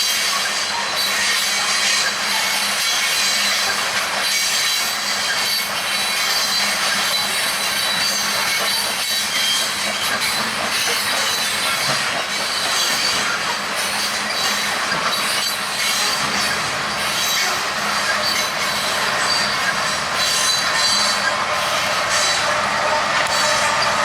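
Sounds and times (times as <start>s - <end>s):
freight train cars rolling: 0.0s - 24.0s
high wheel squeal: 0.0s - 24.0s.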